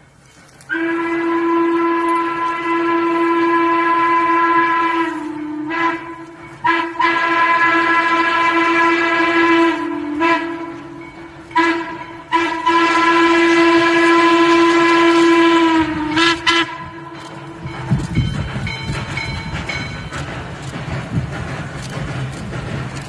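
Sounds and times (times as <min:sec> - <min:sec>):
steam locomotive whistle blasts: 0:00.7 - 0:20.0.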